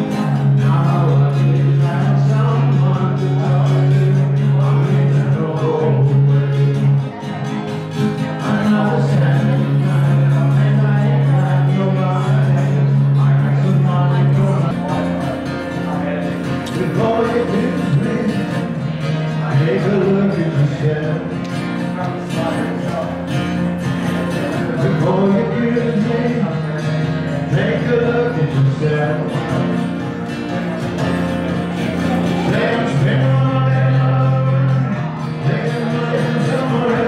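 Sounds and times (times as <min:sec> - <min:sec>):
person singing: 0:00.0 - 0:23.2, 0:23.9 - 0:37.0
guitar playing: 0:00.0 - 0:37.0.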